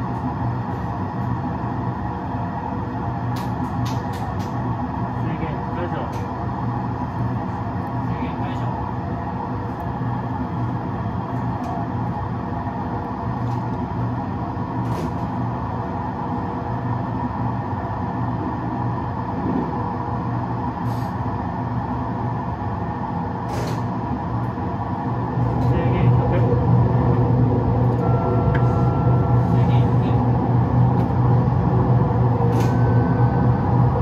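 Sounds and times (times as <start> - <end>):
electric train rumble: 0.0 - 34.0.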